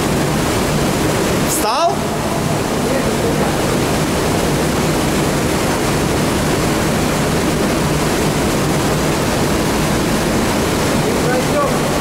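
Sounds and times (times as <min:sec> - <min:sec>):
water rushing in tunnel: 0:00.0 - 0:12.0.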